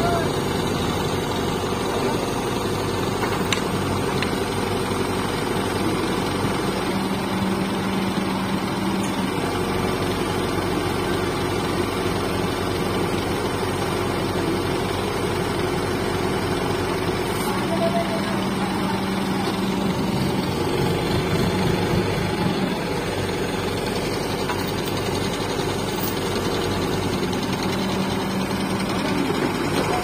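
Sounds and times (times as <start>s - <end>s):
heavy diesel engines idling: 0.0s - 30.0s.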